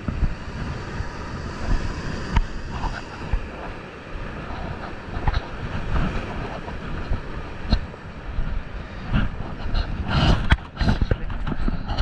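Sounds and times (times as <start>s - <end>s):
surf washing over rocks: 0.0s - 12.0s
wind buffeting microphone: 0.0s - 12.0s.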